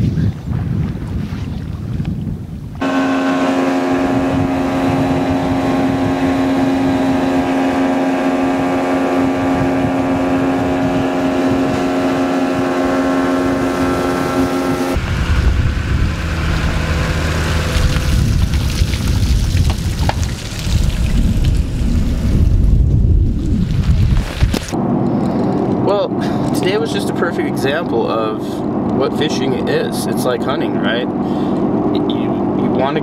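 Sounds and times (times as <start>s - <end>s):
wind: 0.0s - 33.0s
outboard motor droning: 2.8s - 22.7s, 24.6s - 33.0s
low engine rumble: 2.8s - 33.0s.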